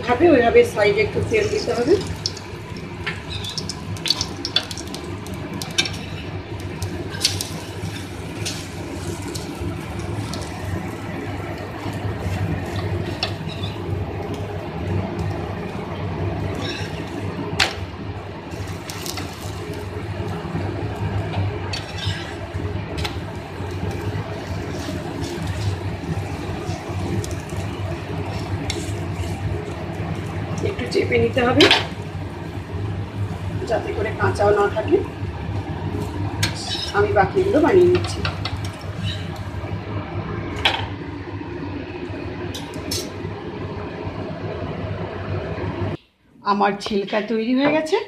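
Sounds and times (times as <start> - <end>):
batter sizzling in oil: 0.0 - 46.0.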